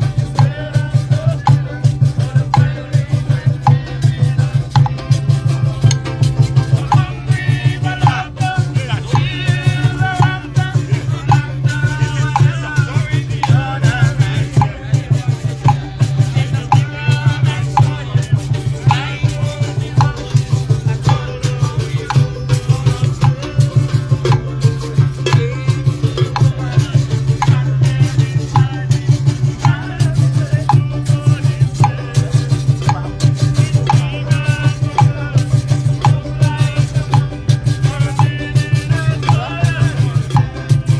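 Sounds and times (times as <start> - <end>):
live music: 0.0 - 40.9
shaker rattling: 0.0 - 40.9.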